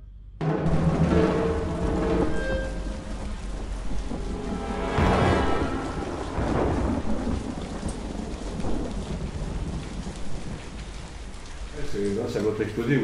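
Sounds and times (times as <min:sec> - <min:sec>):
thunder rumbling: 0:00.4 - 0:12.8
steady rain: 0:00.4 - 0:13.0.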